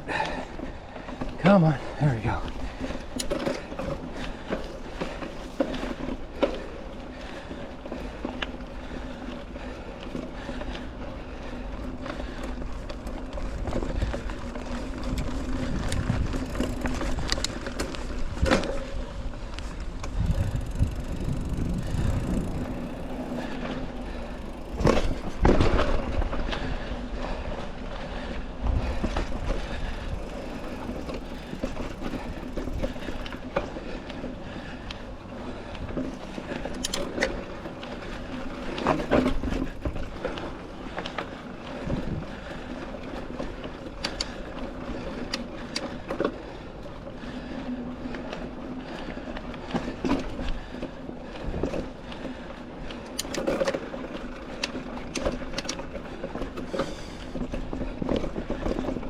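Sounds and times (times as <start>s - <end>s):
bike rattling: 0.0s - 59.0s
bike tires crunching on dirt: 0.0s - 59.0s.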